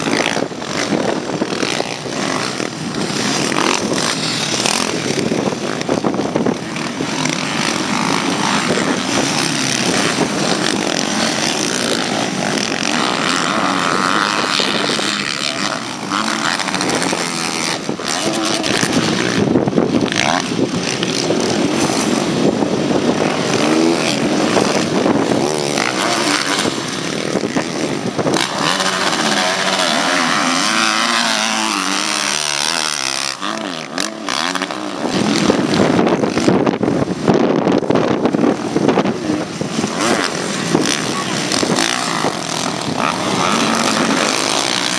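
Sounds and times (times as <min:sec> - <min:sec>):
motocross bikes revving: 0:00.0 - 0:44.9.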